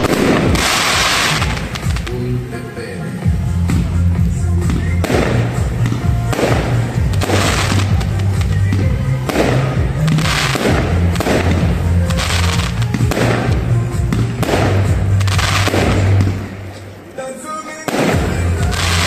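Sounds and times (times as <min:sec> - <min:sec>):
fireworks bursting: 0:00.0 - 0:19.0
music with deep bass: 0:00.0 - 0:19.0.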